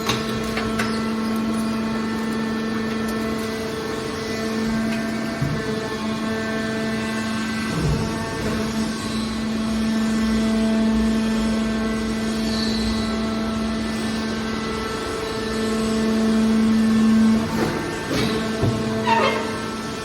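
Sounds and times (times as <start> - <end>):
hydraulic baler motor humming: 0.0 - 20.0.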